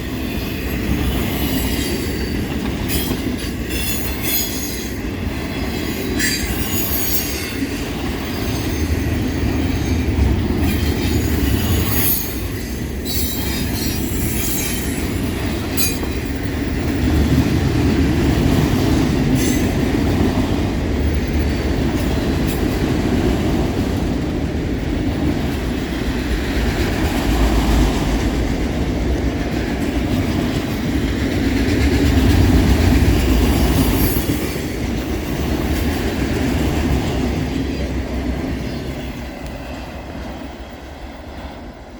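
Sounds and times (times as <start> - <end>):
steel wheels rumbling on rail: 0.0 - 41.9.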